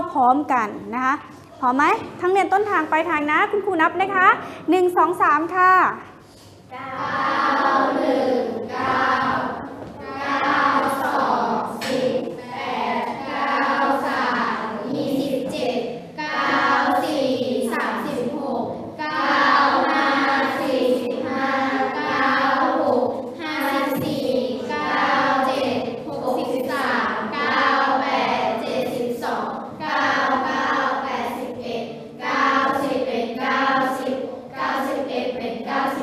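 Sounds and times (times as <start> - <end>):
children chanting in unison: 6.7 - 36.0.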